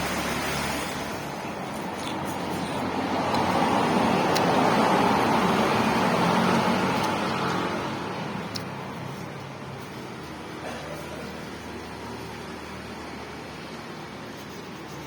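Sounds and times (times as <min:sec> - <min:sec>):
vehicle passing by: 0:00.0 - 0:15.0.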